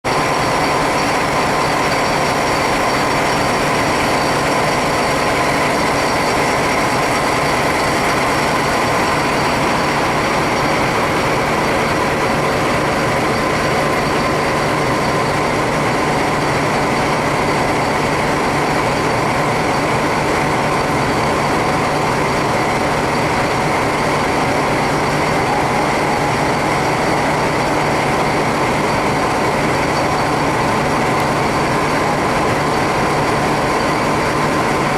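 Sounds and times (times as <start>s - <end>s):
diesel locomotive engine idling: 0.0s - 34.9s.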